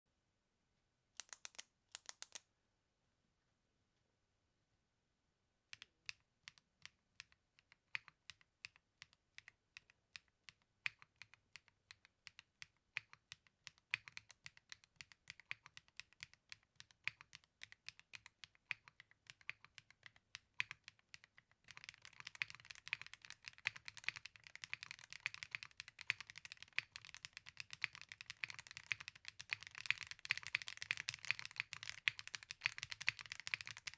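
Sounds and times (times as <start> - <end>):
mechanical keyboard typing: 1.2 - 2.4, 5.8 - 33.9.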